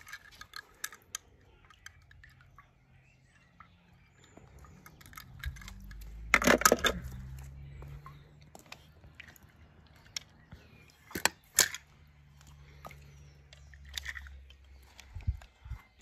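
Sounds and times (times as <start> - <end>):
small objects clicking and knocking: 0.0 - 2.8, 4.2 - 16.0.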